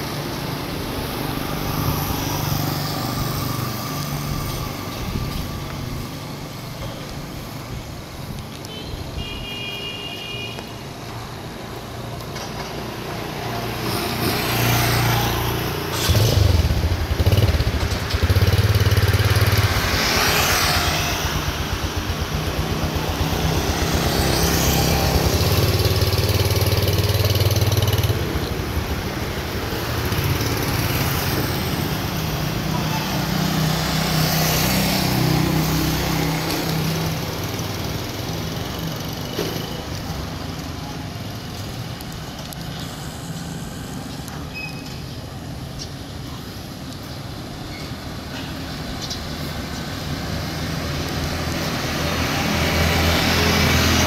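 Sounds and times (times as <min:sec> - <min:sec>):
vehicles passing: 0:00.0 - 0:54.0
low traffic rumble: 0:10.6 - 0:54.0.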